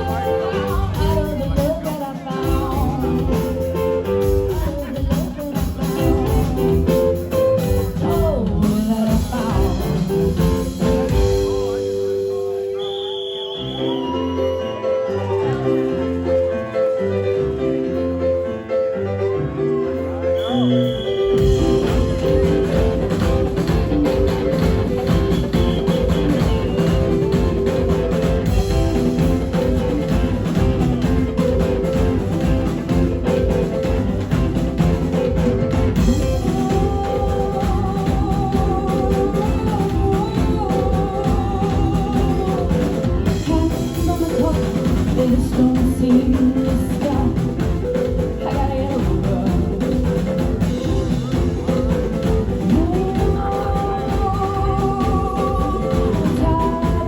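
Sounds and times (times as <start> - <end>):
drum kit beat: 0.0 - 14.3, 20.4 - 57.0
live rock band playing: 0.0 - 57.0.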